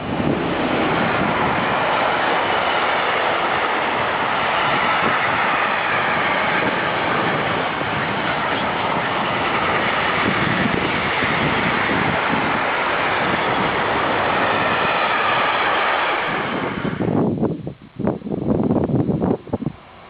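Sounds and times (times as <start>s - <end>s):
train rushing past on track: 0.0s - 20.0s
wind gusts on microphone: 0.0s - 20.0s.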